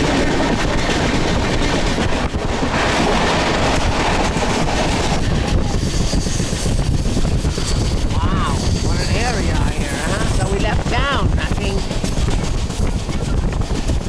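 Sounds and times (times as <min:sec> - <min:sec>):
train rumbling and rattling: 0:00.0 - 0:14.0
wind buffeting microphone: 0:00.0 - 0:14.0.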